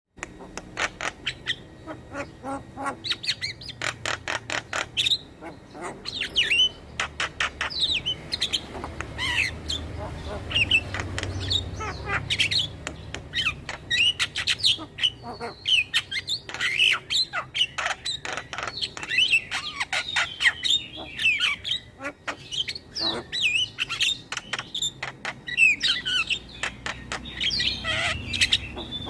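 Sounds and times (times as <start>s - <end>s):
bird chattering song: 0.2s - 29.0s.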